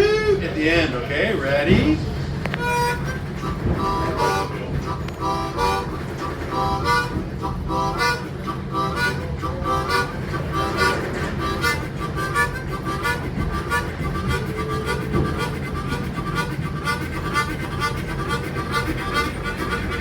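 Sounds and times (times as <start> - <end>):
harmonica chugging chords: 2.5 - 20.0.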